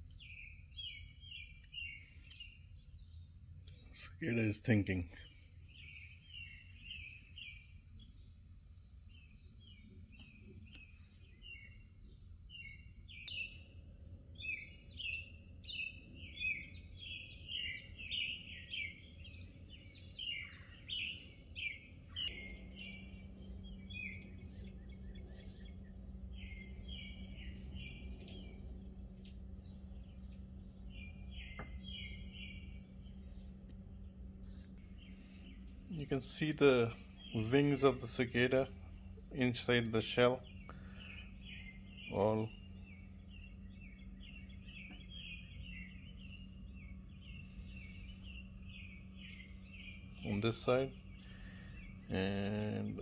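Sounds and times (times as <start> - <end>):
birds chirping: 0.0 - 53.0
low steady hum: 0.0 - 53.0.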